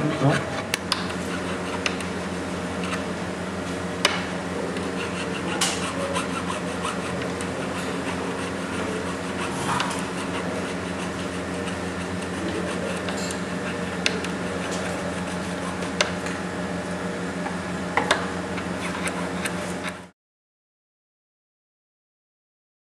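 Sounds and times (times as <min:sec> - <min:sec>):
steady machine hum: 0:00.0 - 0:20.2.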